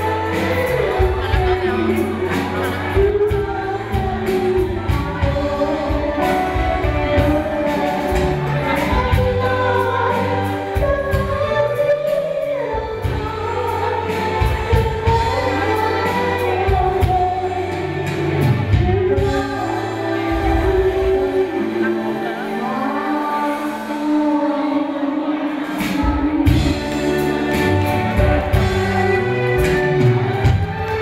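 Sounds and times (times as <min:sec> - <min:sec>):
woman singing into microphone: 0:00.0 - 0:31.0.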